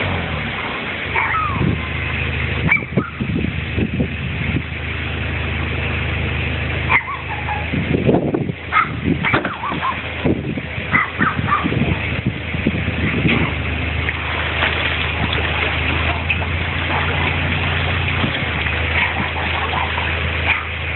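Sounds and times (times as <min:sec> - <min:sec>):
boat engine idling: 0:00.0 - 0:20.9.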